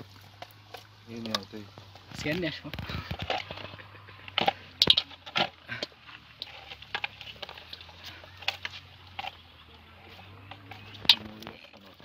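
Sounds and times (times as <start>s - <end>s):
basket rustling and clicking: 0.0s - 12.0s.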